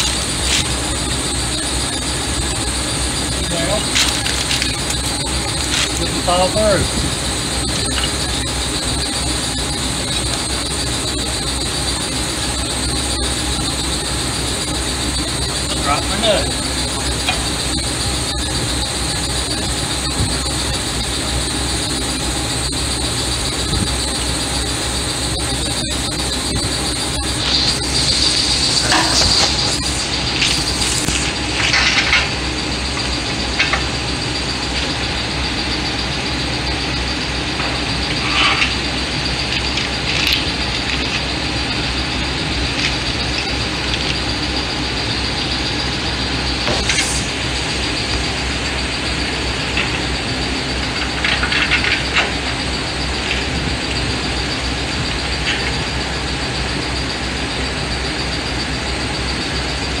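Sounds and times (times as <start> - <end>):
constant high whine: 0.0 - 60.0
machine hum and hiss: 0.0 - 60.0.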